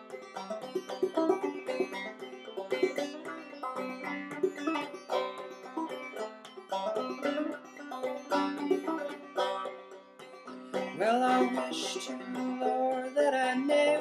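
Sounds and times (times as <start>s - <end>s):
banjo playing: 0.0s - 14.0s.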